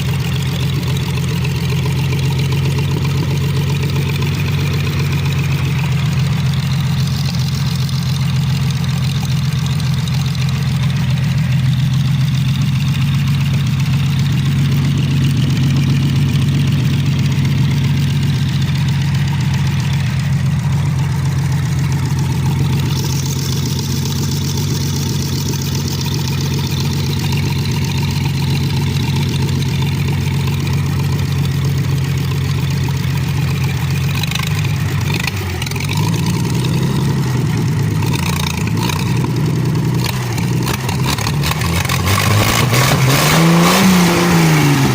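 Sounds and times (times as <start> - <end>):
forklift engine idling: 0.0 - 44.9.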